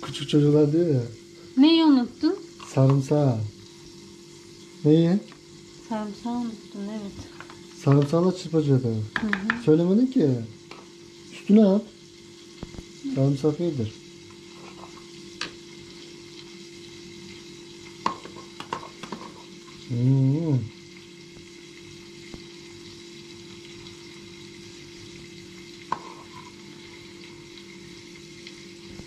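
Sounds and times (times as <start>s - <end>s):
oil sizzling in pan: 0.0s - 29.0s.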